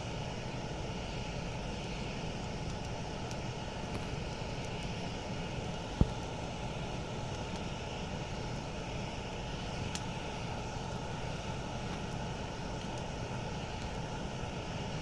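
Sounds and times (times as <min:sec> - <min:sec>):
fire crackle: 0:00.0 - 0:15.0
campfire rushing: 0:00.1 - 0:15.0
fire popping: 0:02.4 - 0:15.0.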